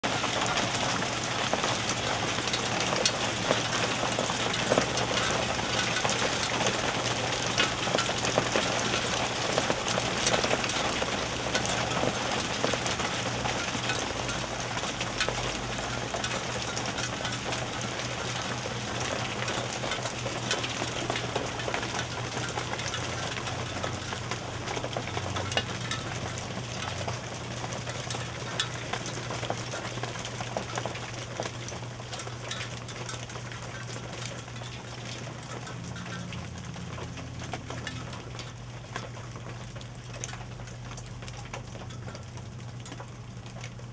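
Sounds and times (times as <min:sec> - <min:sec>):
hail pelting deck and metal: 0:00.0 - 0:43.9.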